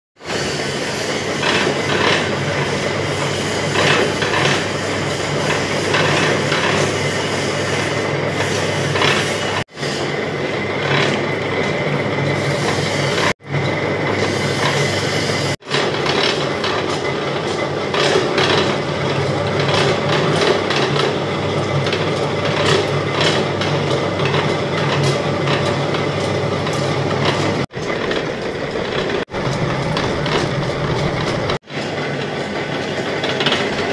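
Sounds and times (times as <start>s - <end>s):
lathe mechanical hum: 0.2s - 33.9s.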